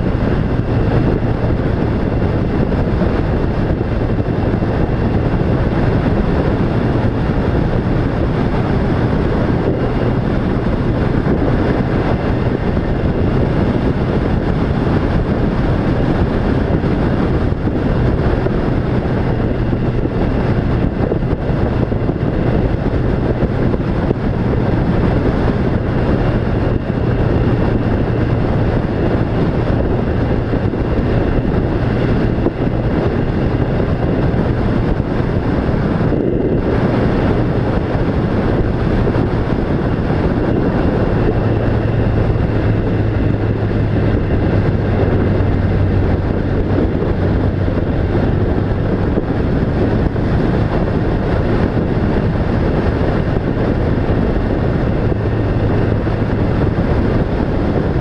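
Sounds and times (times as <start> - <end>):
rushing noise: 0.0 - 58.0
vehicle engine hum: 0.0 - 58.0.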